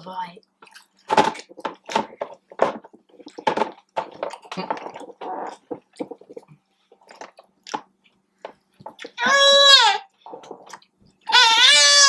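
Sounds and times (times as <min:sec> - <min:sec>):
faint steady hum: 0:00.0 - 0:12.0
wet chewing and mouth sounds: 0:00.4 - 0:09.2, 0:10.2 - 0:11.3.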